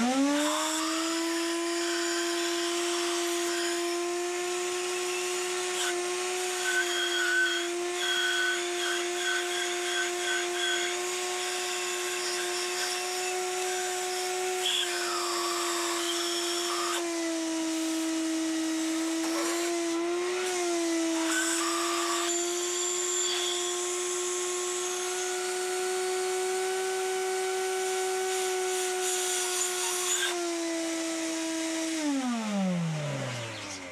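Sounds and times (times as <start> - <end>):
power tool motor running: 0.0 - 33.9.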